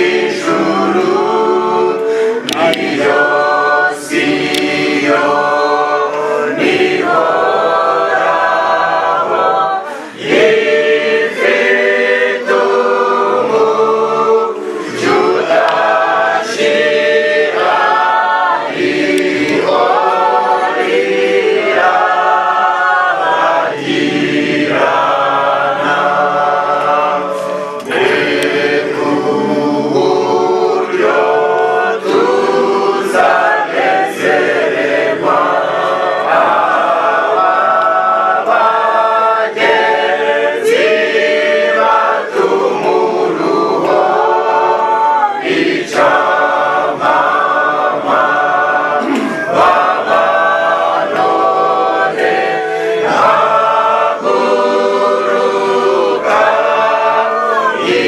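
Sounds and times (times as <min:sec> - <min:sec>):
group singing unaccompanied: 0:00.0 - 0:58.0.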